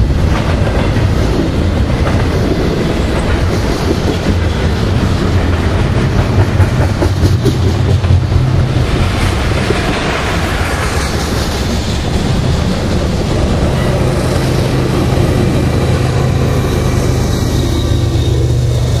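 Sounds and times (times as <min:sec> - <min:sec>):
diesel locomotive engine hum: 0:00.0 - 0:19.0
train wheels rolling on rails: 0:00.0 - 0:19.0.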